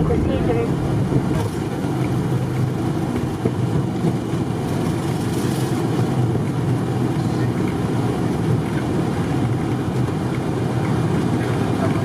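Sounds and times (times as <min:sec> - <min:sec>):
jet engines idling in cabin: 0:00.0 - 0:12.0.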